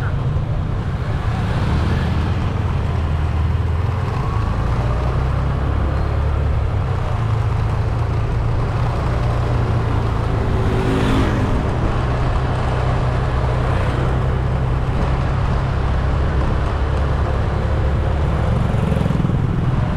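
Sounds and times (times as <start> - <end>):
car driving along road: 0.0 - 19.9.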